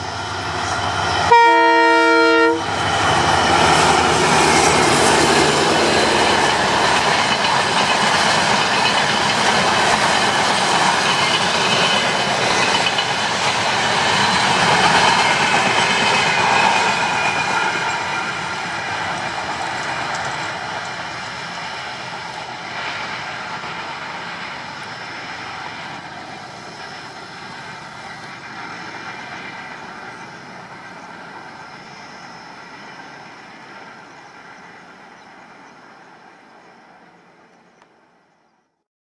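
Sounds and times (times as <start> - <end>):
train wheels rolling on rails: 0.0 - 38.0.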